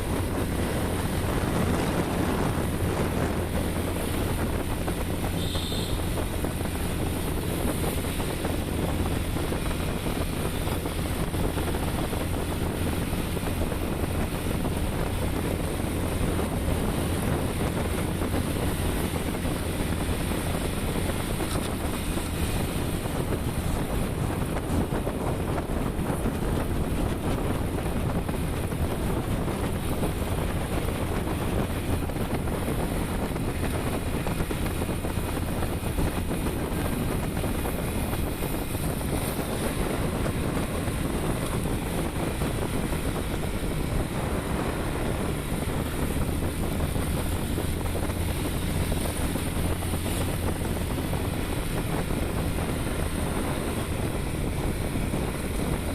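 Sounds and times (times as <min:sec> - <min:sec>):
motorbike engine: 0:00.0 - 0:55.9
road noise: 0:00.0 - 0:55.9
wind rushing over microphone: 0:00.0 - 0:55.9.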